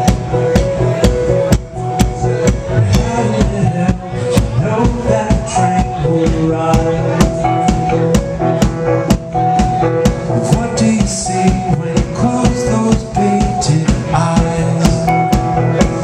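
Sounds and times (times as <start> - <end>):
bass guitar: 0.0 - 16.0
drum kit beat: 0.0 - 16.0
electric guitar: 0.0 - 16.0
electric keyboard sustained notes: 0.0 - 16.0.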